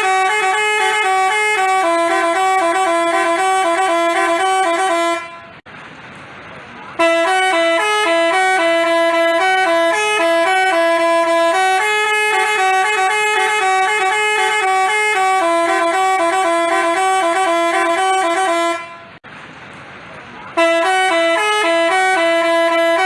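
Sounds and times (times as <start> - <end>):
multi-tone bus horn tune: 0.0 - 5.6, 6.9 - 19.2, 20.5 - 23.0.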